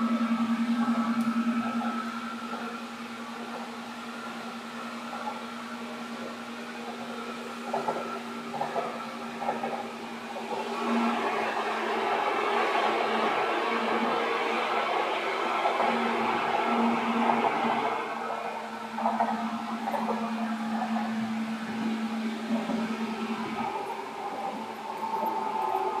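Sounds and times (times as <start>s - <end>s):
electric train hum: 0.0s - 26.0s.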